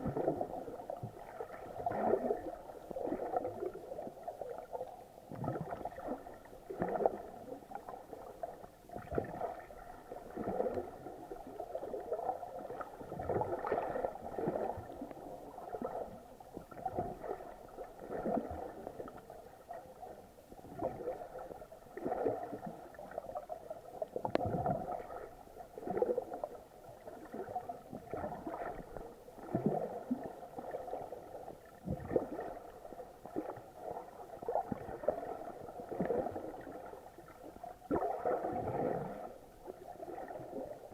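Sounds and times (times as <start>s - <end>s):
muffled underwater gurgling: 0.0s - 40.9s.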